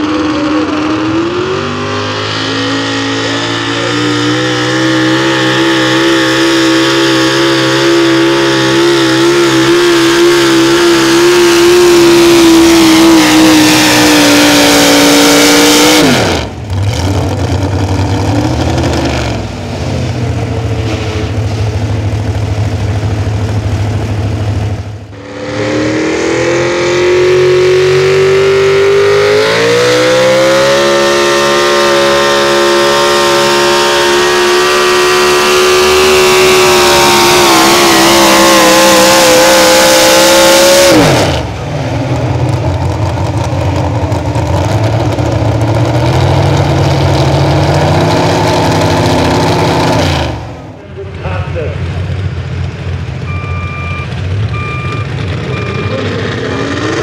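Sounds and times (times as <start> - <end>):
pulling truck engine revving: 0.0 - 57.0.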